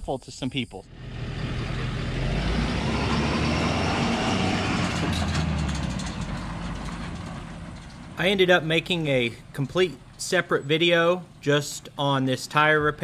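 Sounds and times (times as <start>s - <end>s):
truck engine running: 0.9s - 12.7s.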